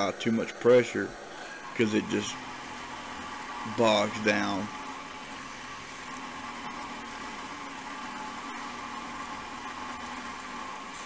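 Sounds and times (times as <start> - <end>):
belt sander grinding steel: 0.0 - 11.0.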